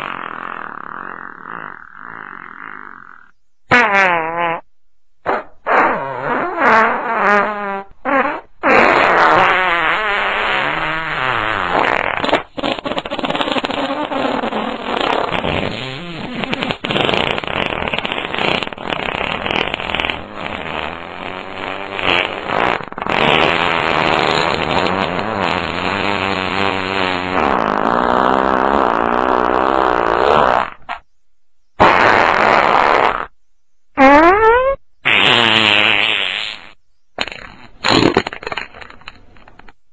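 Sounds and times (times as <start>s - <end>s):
comedic fart sound effects: 0.0s - 31.1s, 31.8s - 33.4s, 34.0s - 39.8s.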